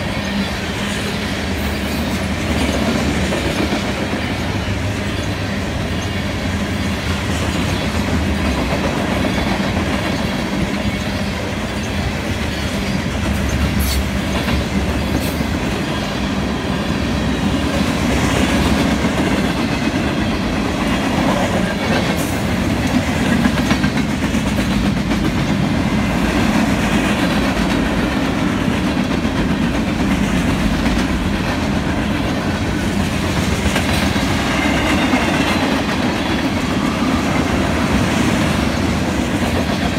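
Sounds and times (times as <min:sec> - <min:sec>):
steel wheels rolling on rails: 0:00.0 - 0:39.9.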